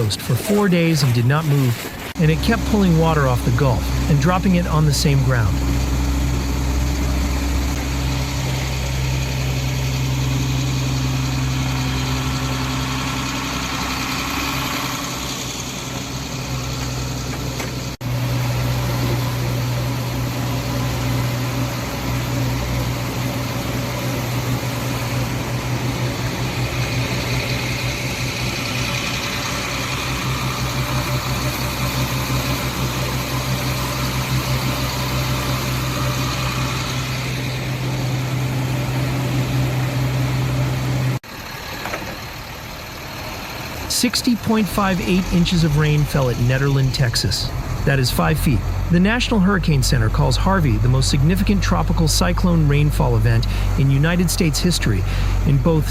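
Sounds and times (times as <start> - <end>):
vehicle engine droning: 0.0 - 55.9.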